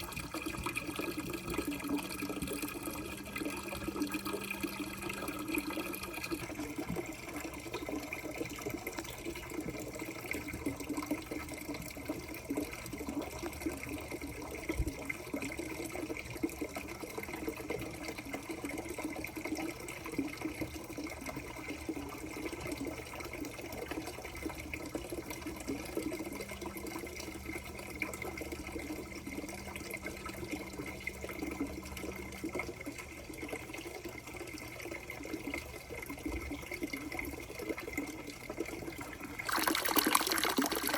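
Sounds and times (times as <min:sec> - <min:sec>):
water splashing and trickling: 0:00.0 - 0:40.9.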